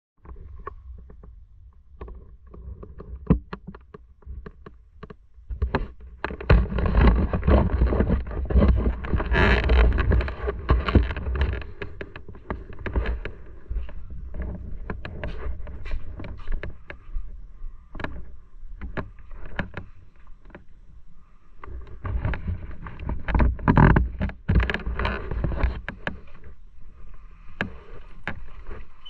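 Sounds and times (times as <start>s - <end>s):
wind noise on microphone: 0.2s - 29.0s.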